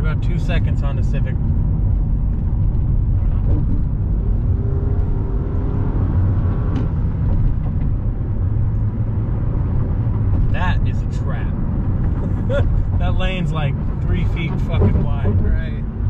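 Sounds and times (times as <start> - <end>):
car interior road rumble: 0.0 - 16.0.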